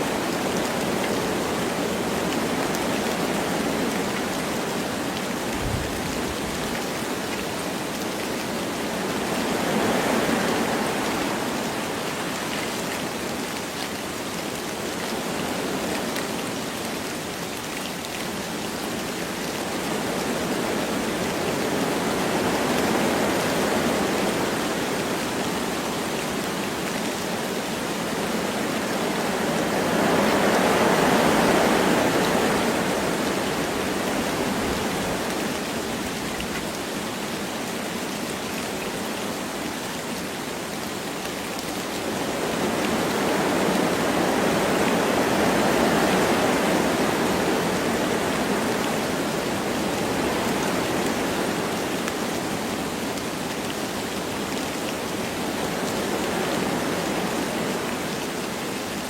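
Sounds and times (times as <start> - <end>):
light rain falling: 0.0 - 59.0
wind blowing through trees: 0.0 - 59.0.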